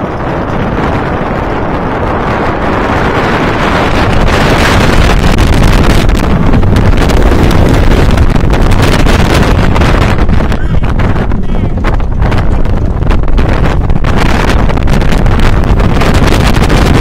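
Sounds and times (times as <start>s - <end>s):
roller coaster rumbling on track: 0.0s - 17.0s
wind rushing over microphone: 0.0s - 17.0s.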